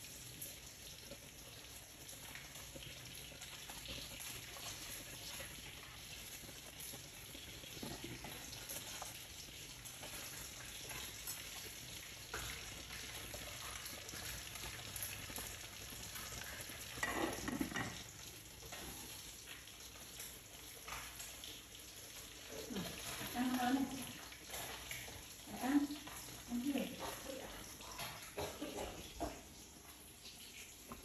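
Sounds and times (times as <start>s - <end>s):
food frying sizzle: 0.0s - 31.0s.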